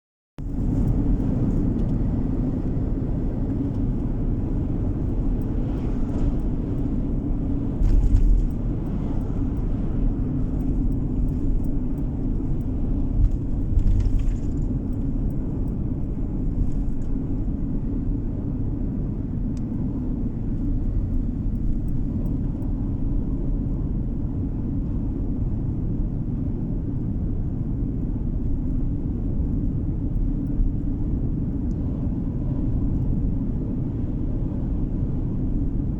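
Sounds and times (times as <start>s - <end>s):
car road rumble: 0.4s - 35.9s.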